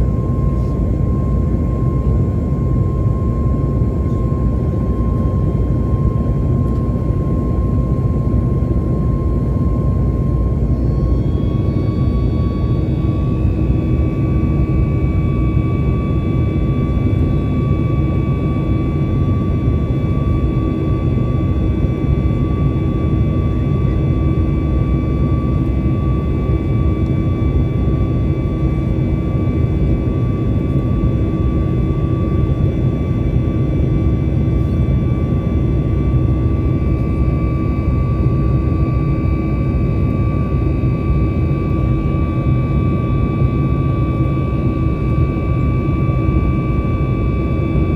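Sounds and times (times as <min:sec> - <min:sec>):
jet engine rumble and fan whine: 0:00.0 - 0:47.9.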